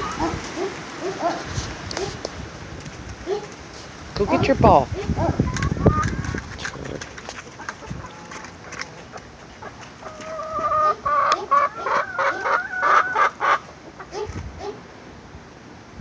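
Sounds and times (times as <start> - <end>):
chickens clucking: 0.0 - 14.8.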